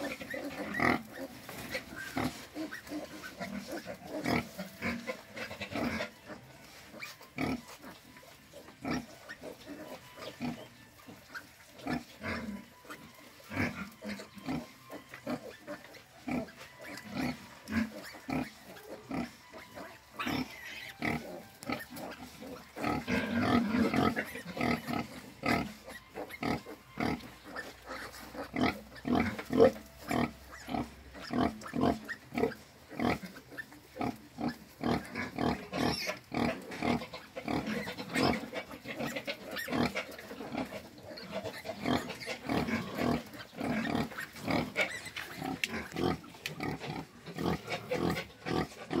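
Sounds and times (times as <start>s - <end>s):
sow grunting: 0.0s - 6.6s, 13.4s - 49.0s
piglets grunting: 0.0s - 8.0s, 11.3s - 49.0s.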